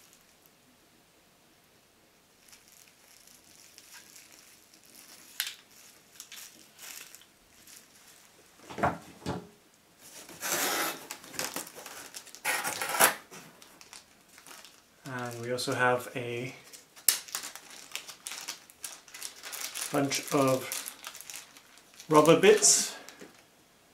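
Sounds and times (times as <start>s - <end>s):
plastic bag crinkling: 2.4s - 8.6s, 10.0s - 23.5s
packaging rustling: 2.4s - 8.7s, 10.0s - 15.9s, 16.6s - 23.5s.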